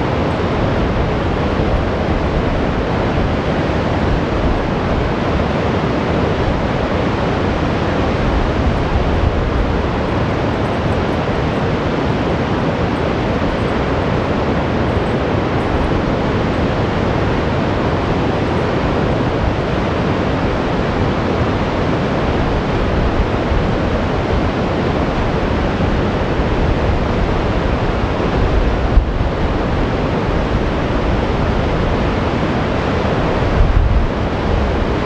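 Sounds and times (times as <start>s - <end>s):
whitewater rushing: 0.0s - 35.0s.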